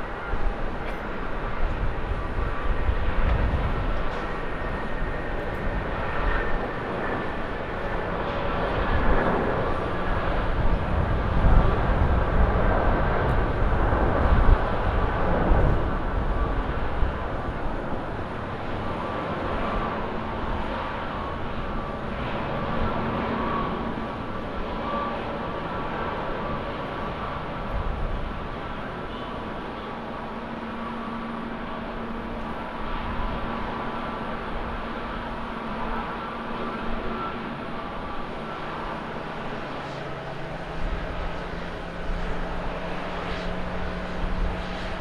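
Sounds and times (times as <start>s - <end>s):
jet airliner taking off: 0.0s - 45.0s.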